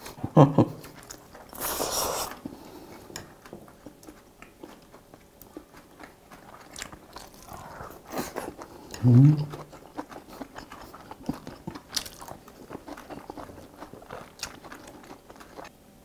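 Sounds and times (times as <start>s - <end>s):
man chewing food: 0.0s - 15.8s.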